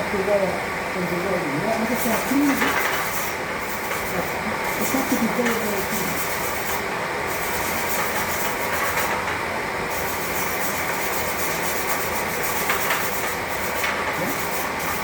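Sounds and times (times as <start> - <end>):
welding arc crackling hiss: 1.8 - 9.3, 9.9 - 15.0.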